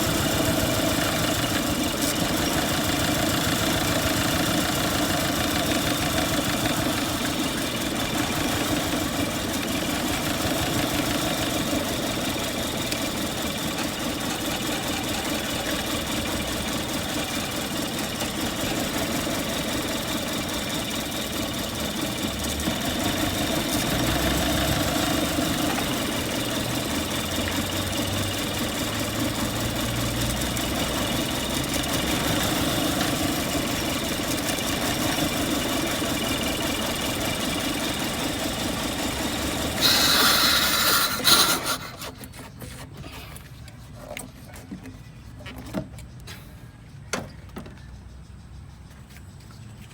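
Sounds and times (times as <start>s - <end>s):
car engine idling: 0.0s - 42.4s.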